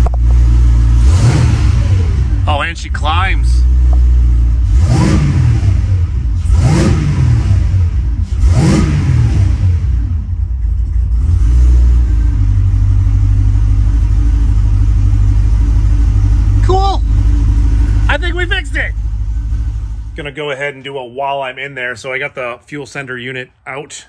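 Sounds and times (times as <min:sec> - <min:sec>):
car engine idling and revving: 0:00.0 - 0:21.6.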